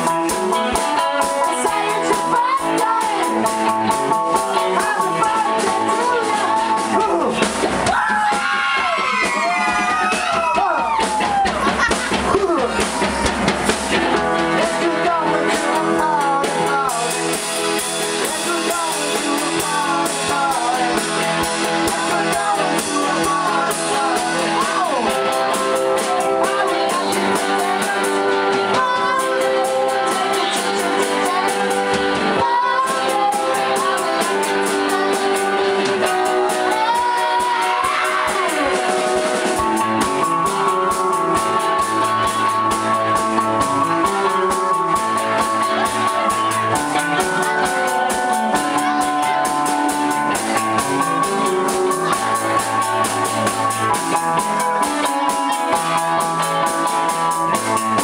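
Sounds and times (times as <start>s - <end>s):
people singing together: 0.0s - 9.6s, 14.4s - 58.0s
electronic keyboard: 0.0s - 58.0s
live band playing: 0.0s - 58.0s.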